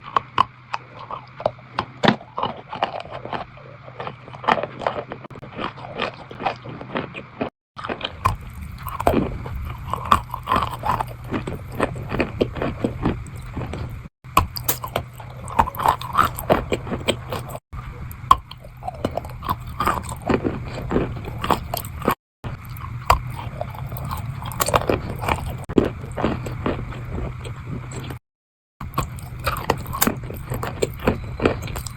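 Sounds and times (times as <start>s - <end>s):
chewing crunchy chalk: 0.0s - 28.2s, 28.8s - 31.9s.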